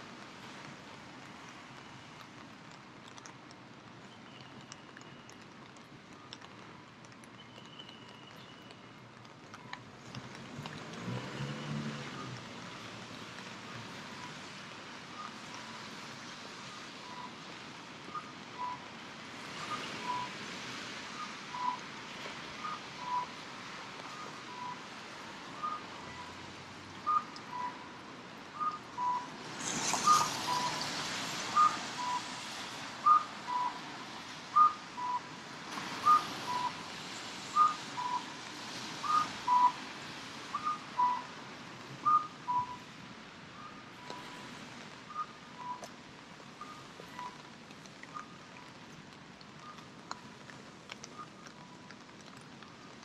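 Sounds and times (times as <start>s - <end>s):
rain hiss: 0.0s - 53.0s
traffic on wet road: 0.0s - 53.0s.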